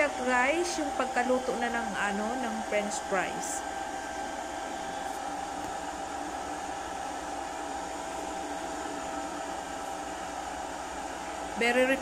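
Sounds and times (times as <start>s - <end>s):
air fryer fan whirring: 0.0s - 12.0s.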